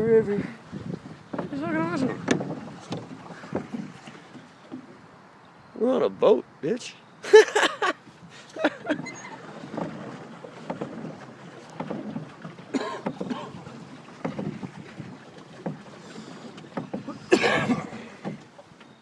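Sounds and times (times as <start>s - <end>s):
paddle wheel churning water: 0.0s - 19.0s.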